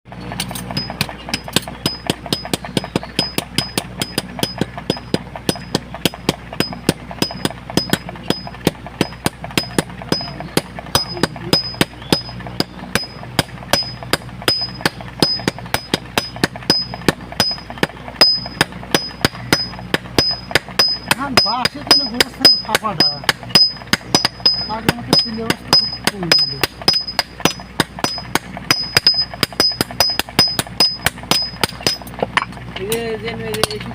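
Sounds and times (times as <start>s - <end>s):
low hum: 0.1s - 33.9s
hammer striking metal on anvil: 0.4s - 32.6s.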